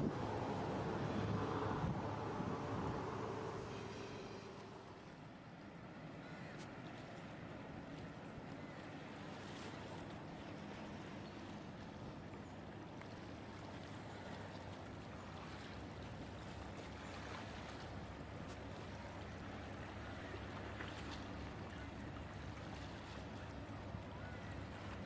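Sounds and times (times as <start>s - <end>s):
distant locomotive engine rumble: 0.0s - 25.0s.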